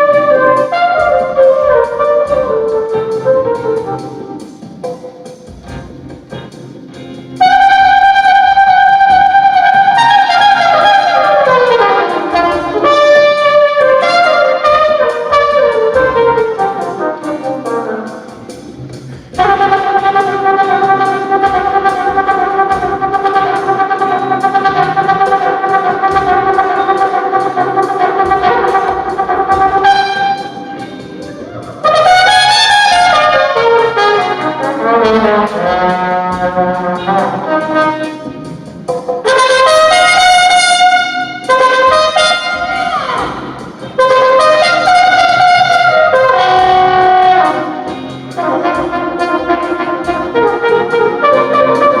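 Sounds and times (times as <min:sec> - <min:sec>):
flugelhorn wailing notes: 0:00.0 - 0:04.4, 0:07.4 - 0:18.4, 0:19.3 - 0:38.6, 0:39.2 - 0:52.0.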